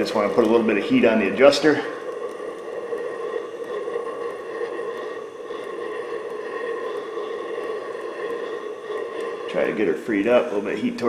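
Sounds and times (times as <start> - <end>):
gas torch flame hissing: 0.0 - 11.0.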